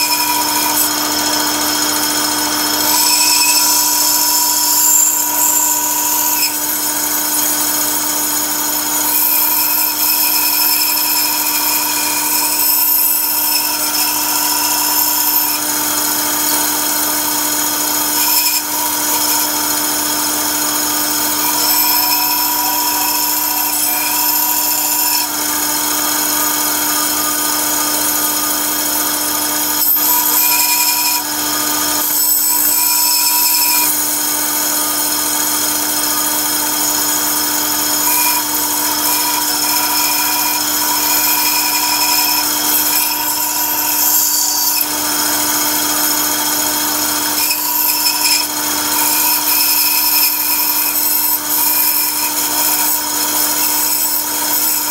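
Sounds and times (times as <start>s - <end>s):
bandsaw motor hum: 0.0s - 54.9s
saw blade cutting wood: 0.0s - 54.9s.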